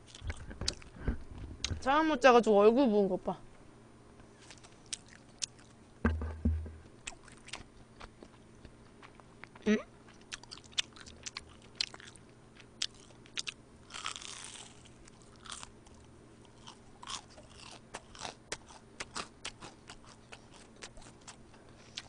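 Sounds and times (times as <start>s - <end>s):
crunching and chewing fried food: 0.0s - 1.7s, 4.4s - 6.0s, 7.0s - 22.0s.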